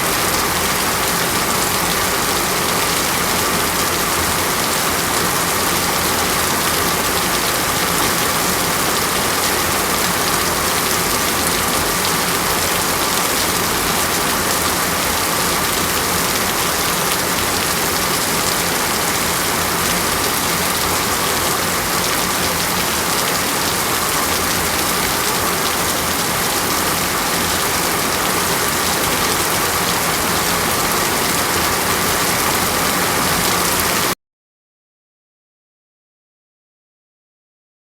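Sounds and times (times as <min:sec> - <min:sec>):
heavy rain falling: 0:00.0 - 0:34.2.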